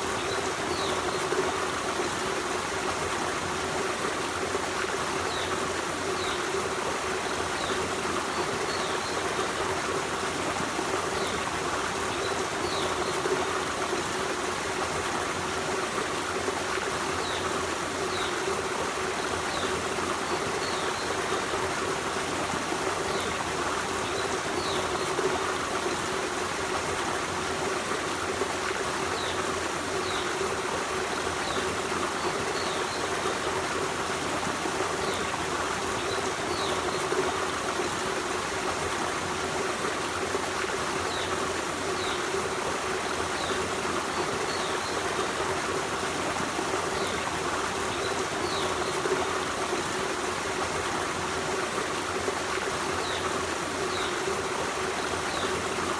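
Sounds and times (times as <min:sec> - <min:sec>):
forest stream running: 0:00.0 - 0:55.9.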